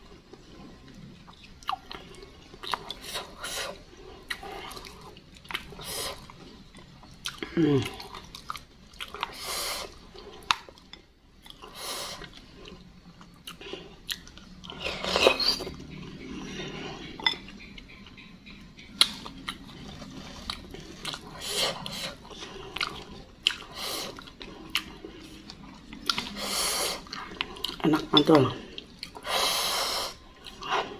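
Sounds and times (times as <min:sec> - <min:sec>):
wet chewing: 0:00.0 - 0:30.9.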